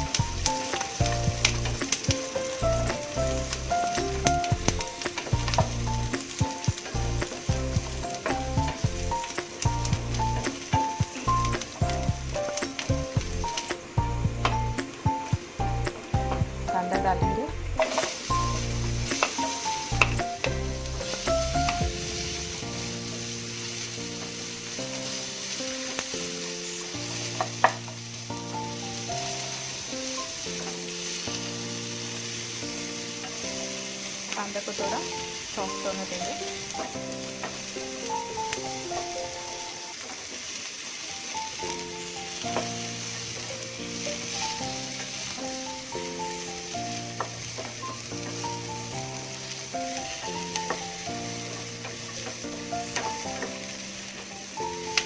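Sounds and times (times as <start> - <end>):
background music: 0.0 - 40.0, 41.0 - 55.0
onion sizzling in oil: 0.0 - 55.0.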